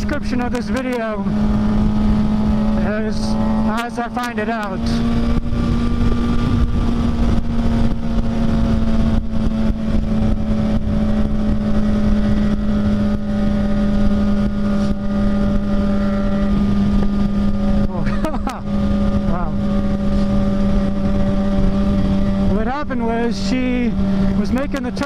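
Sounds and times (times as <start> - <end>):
motorcycle engine droning: 0.0 - 25.0
wind rush on microphone: 0.0 - 25.0.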